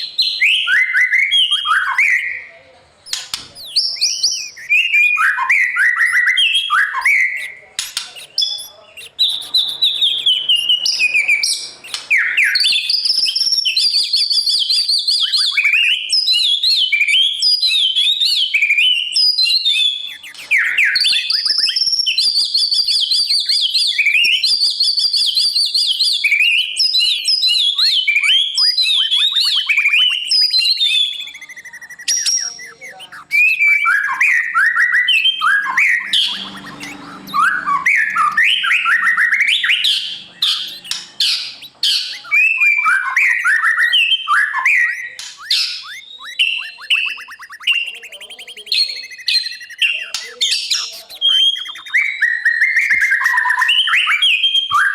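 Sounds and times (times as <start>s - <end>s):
bird singing whistled phrases: 0.0s - 54.9s.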